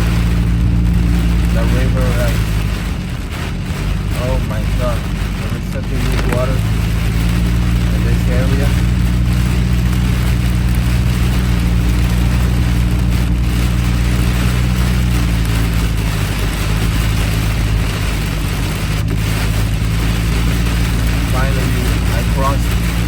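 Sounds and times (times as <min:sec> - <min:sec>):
car engine hum: 0:00.0 - 0:23.0
heavy rain and water hiss: 0:00.0 - 0:23.0.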